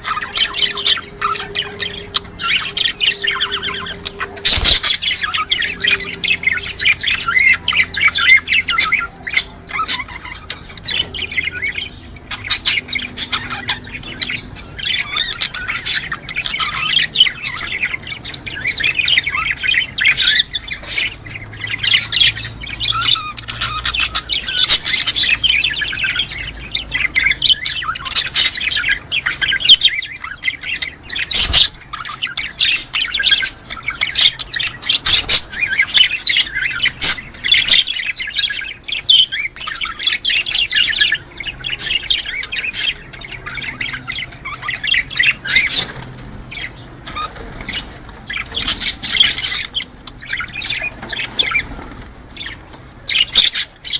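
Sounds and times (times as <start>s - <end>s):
cage birds chirping and squawking: 0.0s - 53.9s.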